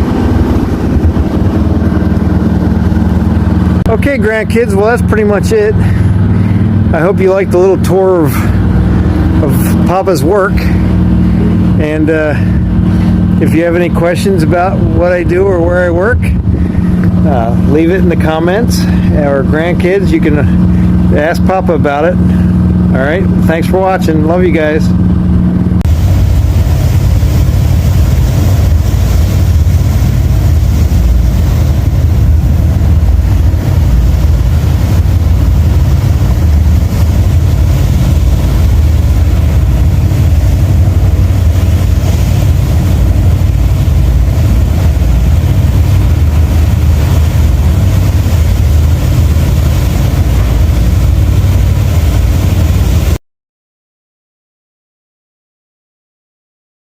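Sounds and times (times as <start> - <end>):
boat engines rumbling: 0.0 - 53.2.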